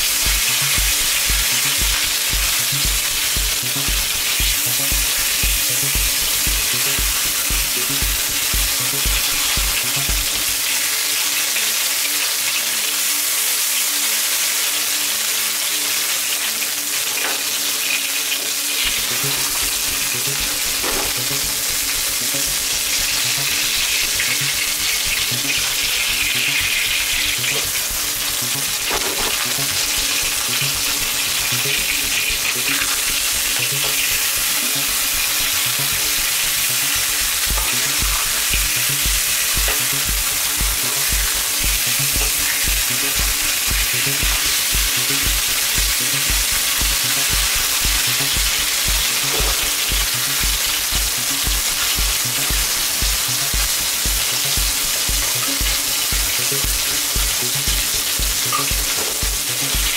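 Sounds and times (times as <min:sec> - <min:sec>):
background music with low beat: 0:00.0 - 0:11.4, 0:18.8 - 0:59.9
pork sizzling in hot oil: 0:00.0 - 0:59.9.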